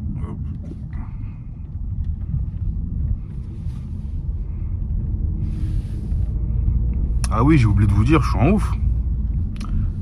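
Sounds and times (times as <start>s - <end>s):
road and tyre rumble in car: 0.0s - 10.0s.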